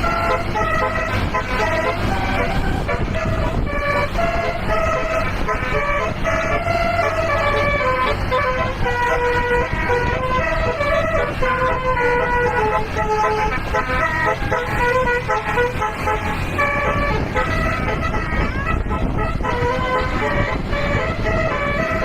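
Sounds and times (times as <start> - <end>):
bus horn playing a melody: 0.0 - 22.0
engine and road noise: 0.0 - 22.0.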